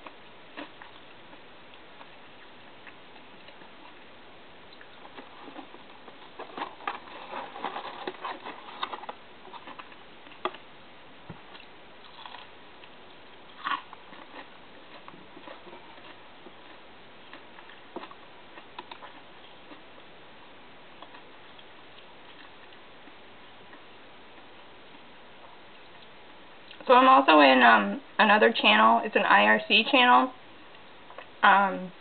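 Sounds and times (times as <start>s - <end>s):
chewing and handling food: 0.0s - 26.9s, 30.4s - 32.0s.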